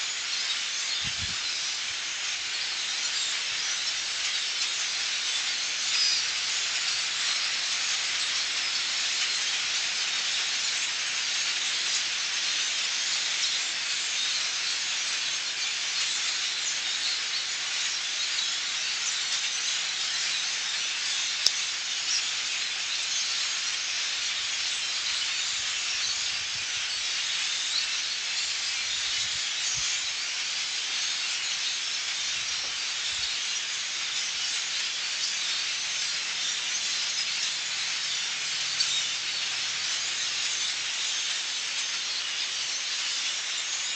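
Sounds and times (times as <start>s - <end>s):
flock of birds calling: 0.0s - 43.9s.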